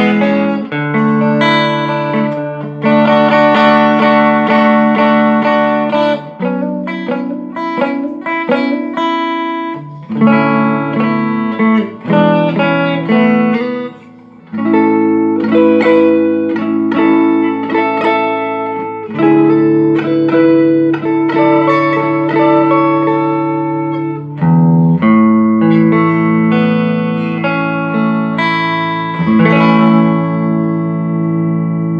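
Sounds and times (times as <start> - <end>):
electric guitar through tube amp: 0.0 - 31.9.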